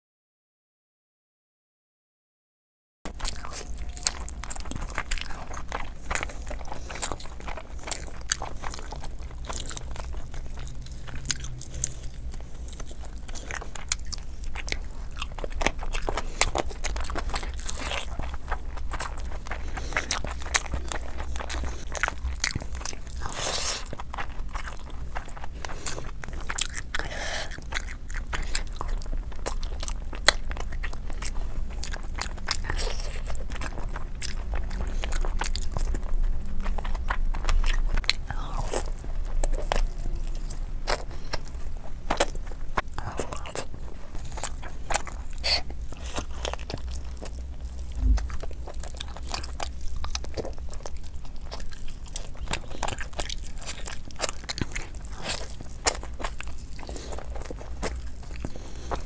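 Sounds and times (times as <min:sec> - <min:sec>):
person chewing food: 0:03.1 - 0:59.0.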